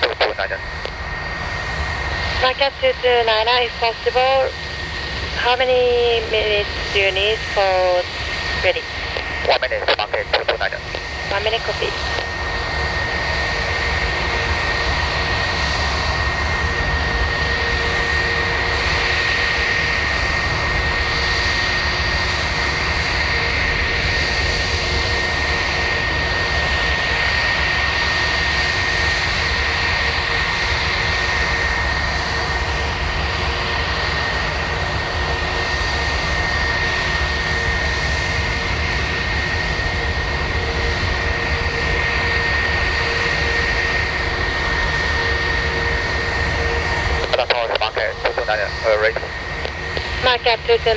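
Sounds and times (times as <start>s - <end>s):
jet engines idling: 0.0s - 50.9s.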